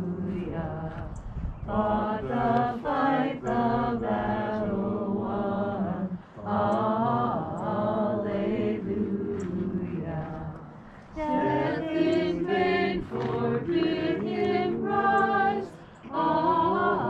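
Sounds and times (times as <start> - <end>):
voices singing a hymn: 0.0 - 17.0.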